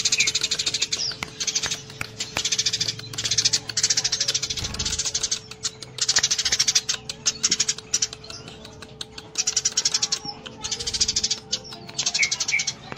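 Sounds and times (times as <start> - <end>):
sparrows harsh chatter: 0.0 - 12.9.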